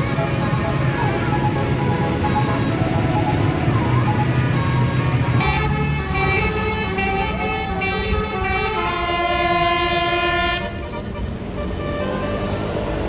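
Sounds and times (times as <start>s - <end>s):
bus engine running: 0.0s - 13.0s
bus musical horn playing a tune: 0.0s - 13.0s.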